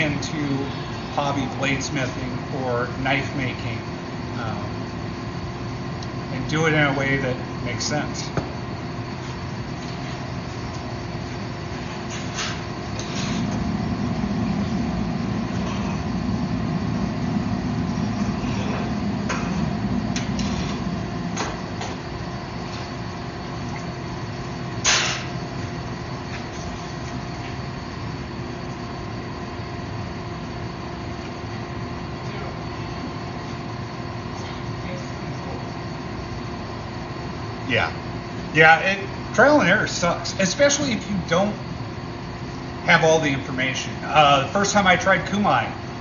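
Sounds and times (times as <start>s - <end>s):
loud low hum: 0.0s - 46.0s
workshop machinery humming: 0.0s - 46.0s.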